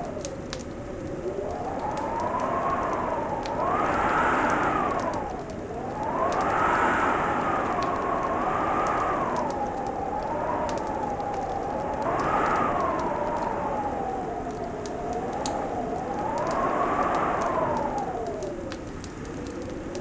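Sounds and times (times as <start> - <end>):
wind howling: 0.0 - 20.0
wood fire crackling: 0.0 - 20.0.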